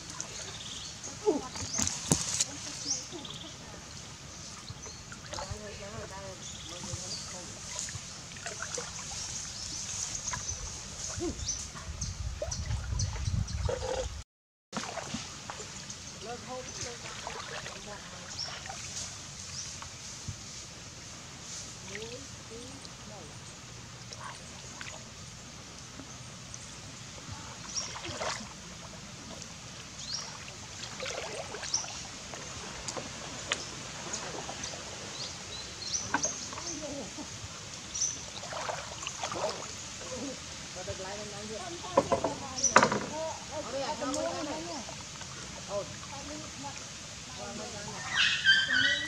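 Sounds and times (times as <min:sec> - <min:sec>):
birds chirping: 0:00.0 - 0:14.2, 0:21.8 - 0:46.4, 0:47.3 - 0:49.0
water sloshing and dripping: 0:00.0 - 0:14.2, 0:14.8 - 0:47.9.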